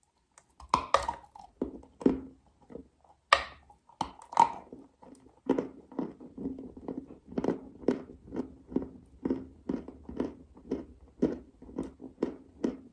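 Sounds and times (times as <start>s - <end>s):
clay being chewed: 0.0s - 12.9s.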